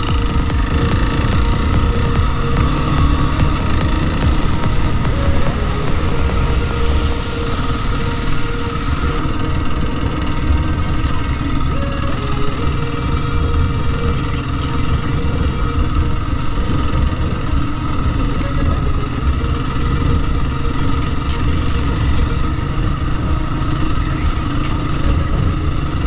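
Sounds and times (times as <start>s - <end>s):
heavy low rumble: 0.0s - 26.0s
motorcycle engine running: 0.0s - 26.0s.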